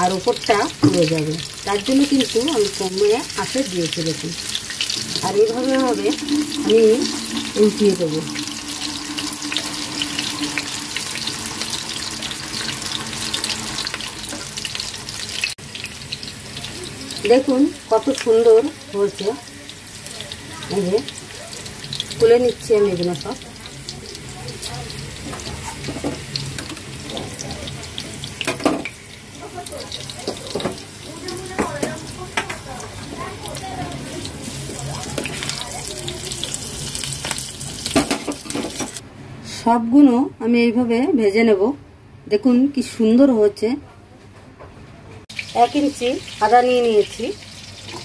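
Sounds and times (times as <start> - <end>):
oil sizzling with fine crackles: 0.0 - 39.0, 45.3 - 48.0.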